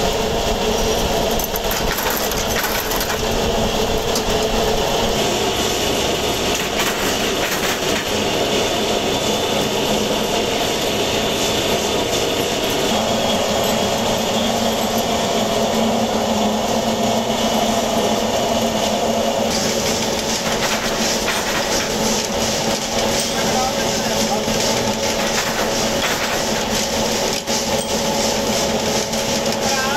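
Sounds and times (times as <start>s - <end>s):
workshop machinery running: 0.0s - 29.9s.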